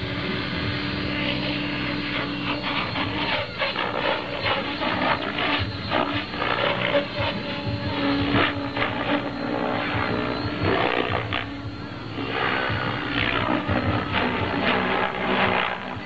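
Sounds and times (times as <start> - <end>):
pulsing rotor noise: 0.0 - 16.0
rc helicopter motor whine: 0.0 - 16.0.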